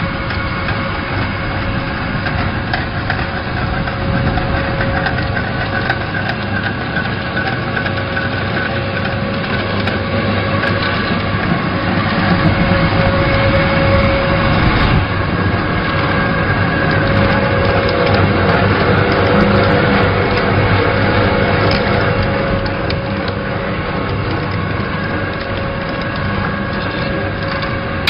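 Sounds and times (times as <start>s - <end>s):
pellet mill humming and whining: 0.0s - 28.0s.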